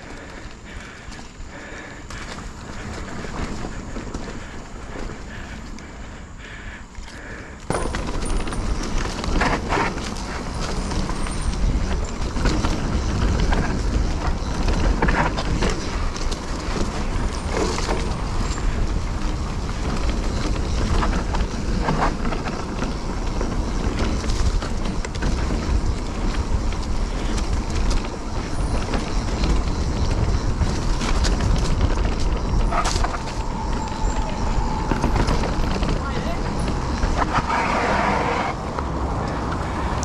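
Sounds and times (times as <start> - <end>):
bike chain and frame rattling: 0.0 - 40.0
bike tyres rolling on dirt: 0.0 - 40.0
wind rumble on microphone: 7.7 - 40.0.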